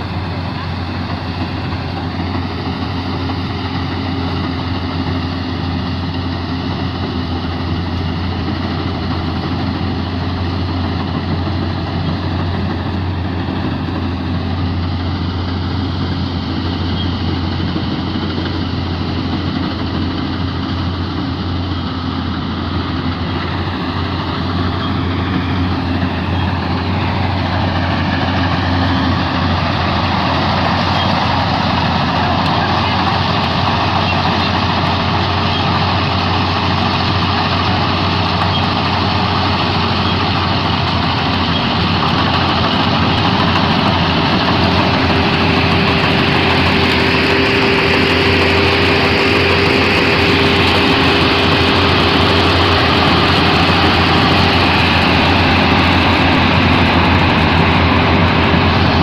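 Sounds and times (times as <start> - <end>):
combine harvester engine hum: 0.0 - 59.0
machinery noise: 0.0 - 59.0.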